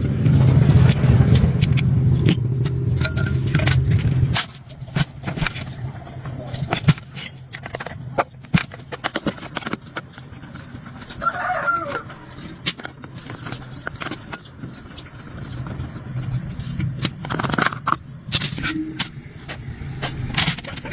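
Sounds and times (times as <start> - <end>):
high-pitched whine: 0.0 - 20.9.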